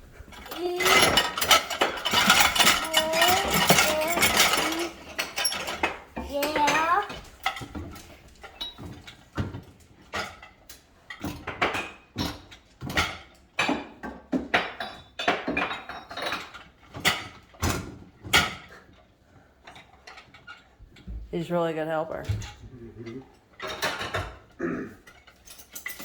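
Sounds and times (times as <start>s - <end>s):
dishes and cups clinking: 0.3s - 18.8s, 22.2s - 26.0s.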